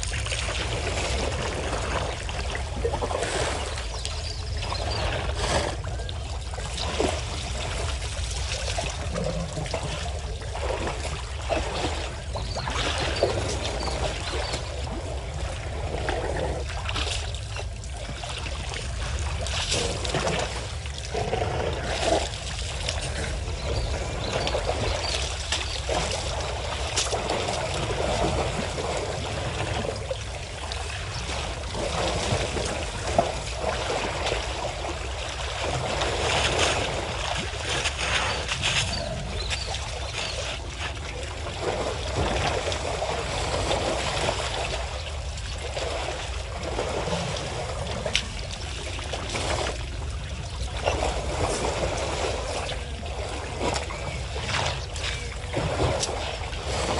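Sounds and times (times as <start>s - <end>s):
water splashing: 0.0s - 56.9s.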